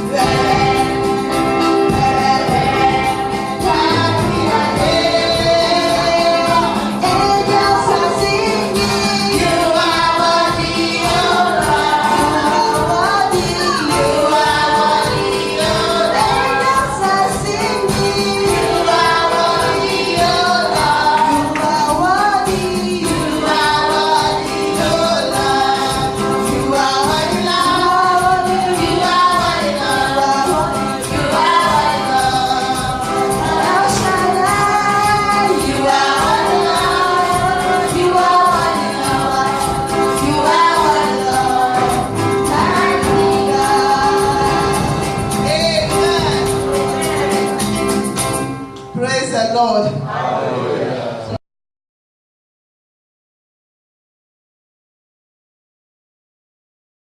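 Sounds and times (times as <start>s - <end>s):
choir singing: 0.0s - 47.8s, 50.0s - 51.4s
held accompaniment: 0.0s - 51.1s.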